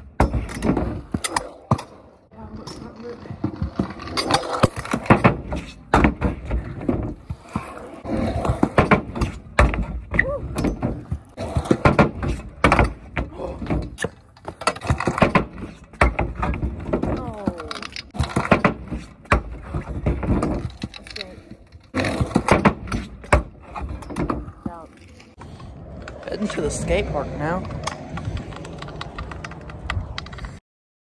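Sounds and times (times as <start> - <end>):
skateboard knocking and thudding: 0.0 - 30.6
skateboard rolling on concrete: 0.0 - 30.6.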